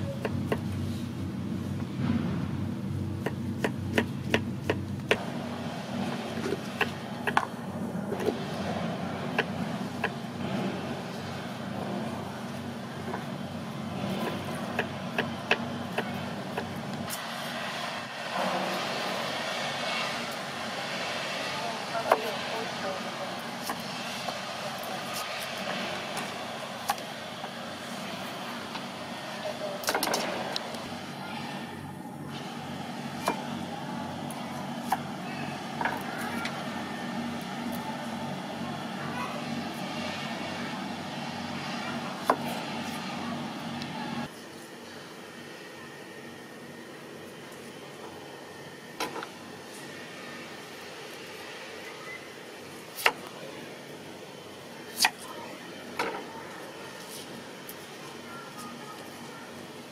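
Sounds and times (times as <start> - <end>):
steady low hum: 0.0 - 59.9
low engine-like drone: 4.9 - 54.8.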